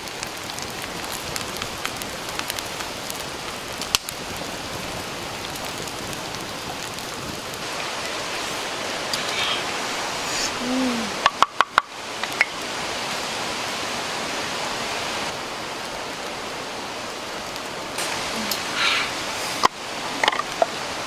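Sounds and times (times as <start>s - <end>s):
hiss of running water: 0.0s - 21.0s.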